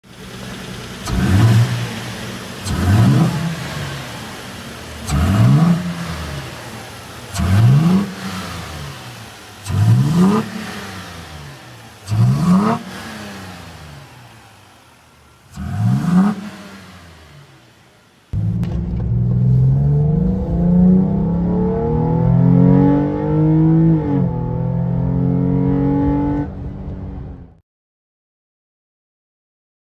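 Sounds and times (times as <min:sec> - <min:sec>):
car engine pulling steadily: 0:00.0 - 0:27.6
car engine revving: 0:00.0 - 0:27.6.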